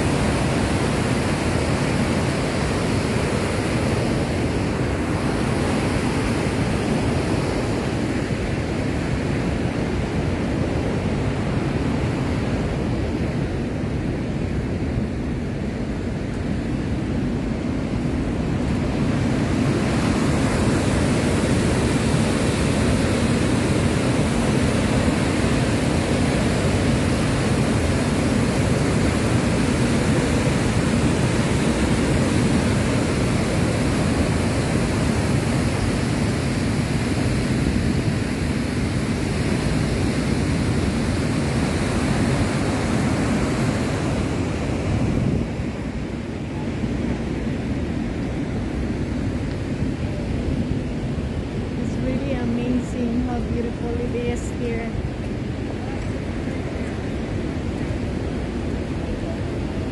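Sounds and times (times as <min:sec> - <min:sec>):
road and wind noise in vehicle: 0:00.0 - 0:59.9.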